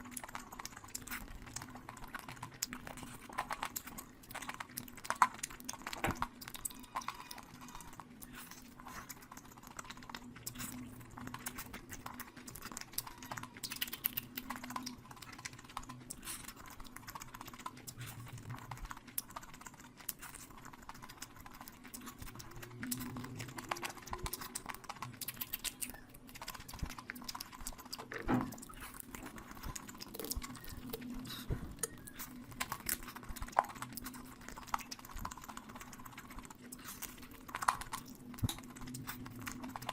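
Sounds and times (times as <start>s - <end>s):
wet chewing and lip-smacking: 0.0s - 39.9s.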